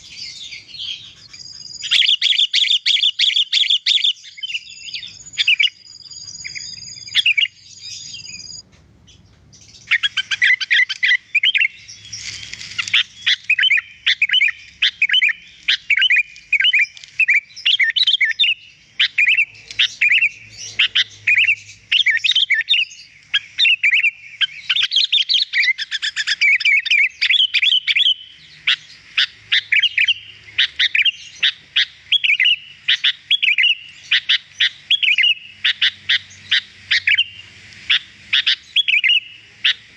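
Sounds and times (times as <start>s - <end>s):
bird singing chirping notes: 0.0s - 39.9s.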